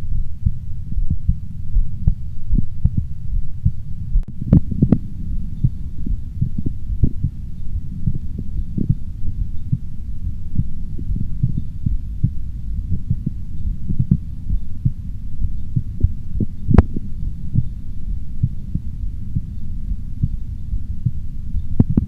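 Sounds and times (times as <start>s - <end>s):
heartbeat through stethoscope: 0.0s - 22.0s
low hum: 0.0s - 22.0s.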